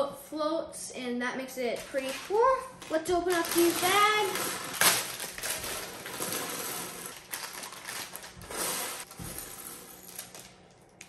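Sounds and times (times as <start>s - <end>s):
plastic bag crinkling: 1.8s - 11.0s
small plastic parts rattling: 1.8s - 11.0s.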